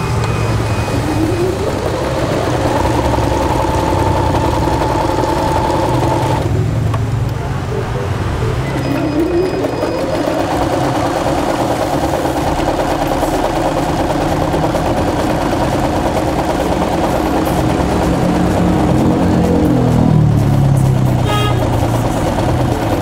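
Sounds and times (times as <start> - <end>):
sewing machine stitching: 0.0 - 6.6, 8.7 - 23.0.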